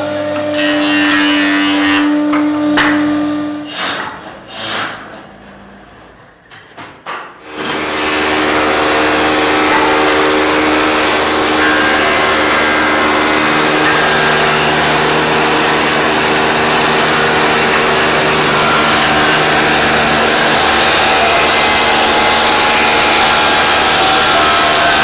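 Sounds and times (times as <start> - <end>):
woodworking machine humming: 0.0 - 5.9, 7.4 - 25.0.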